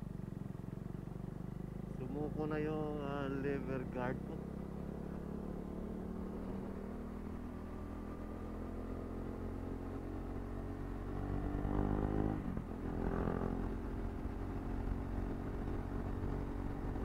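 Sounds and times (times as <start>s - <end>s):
motorcycle engine accelerating: 1.5s - 17.0s.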